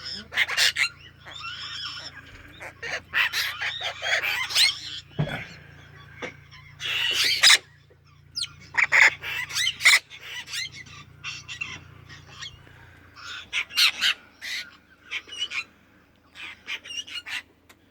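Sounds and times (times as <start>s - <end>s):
parrot calling: 0.0s - 17.5s
birds giving harsh rasping calls: 0.0s - 17.7s.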